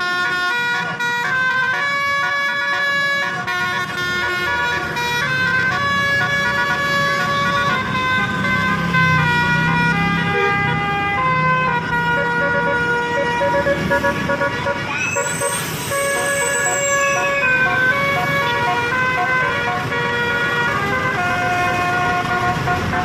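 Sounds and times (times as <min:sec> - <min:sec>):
multi-tone bus air horn melody: 0:00.0 - 0:23.0.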